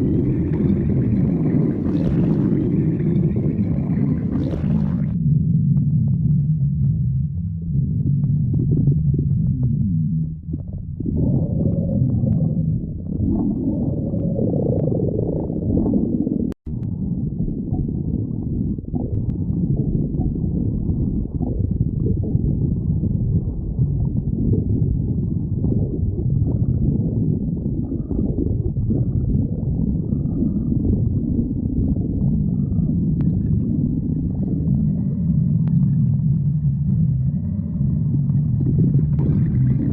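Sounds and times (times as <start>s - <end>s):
stomach growling and gurgling: 0.0s - 39.9s.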